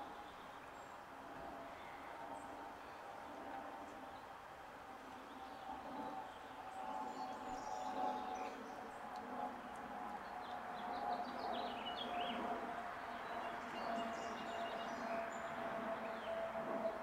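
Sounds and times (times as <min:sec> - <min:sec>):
songbirds chirping: 0:00.0 - 0:17.0
steady background hum: 0:00.0 - 0:17.0.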